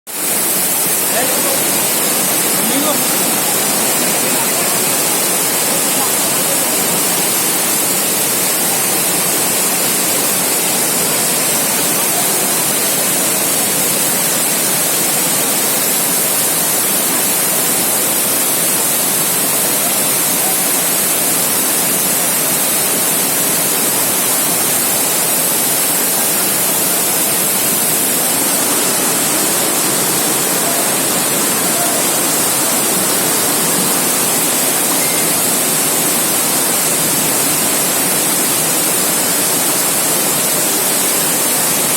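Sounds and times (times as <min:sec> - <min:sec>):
rain falling steadily: 0:00.1 - 0:41.9.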